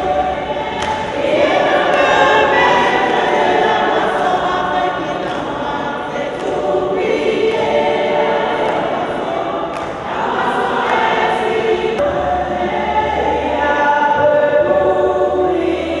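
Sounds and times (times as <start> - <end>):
women's choir singing a hymn: 0.0 - 16.0.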